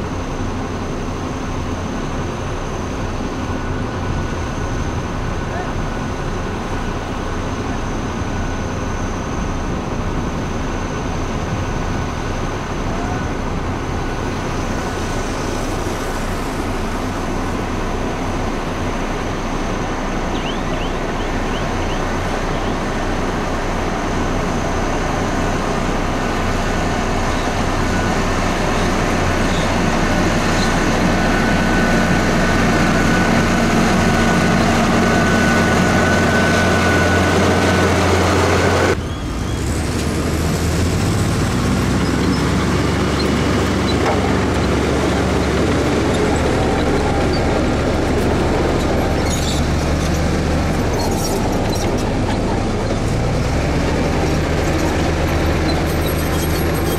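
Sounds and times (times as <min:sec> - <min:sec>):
dump truck diesel engine: 0:00.0 - 0:56.9
heavy diesel engines running: 0:00.0 - 0:56.9.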